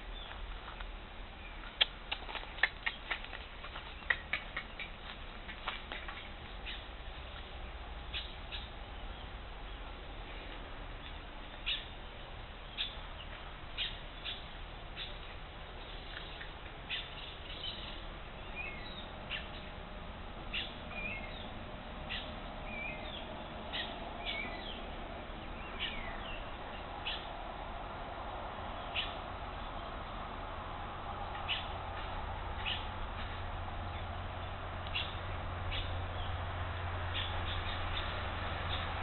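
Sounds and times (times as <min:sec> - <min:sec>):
wild birds calling: 0:01.4 - 0:39.0.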